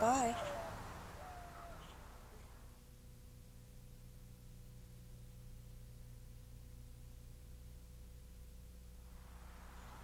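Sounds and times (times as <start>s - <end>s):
faint low hum: 0.0s - 10.0s
tape hiss: 0.0s - 10.0s.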